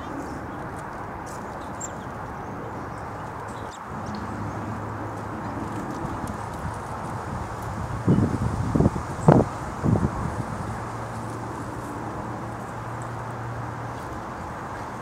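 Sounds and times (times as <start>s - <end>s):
low outdoor background rush: 0.0s - 15.0s.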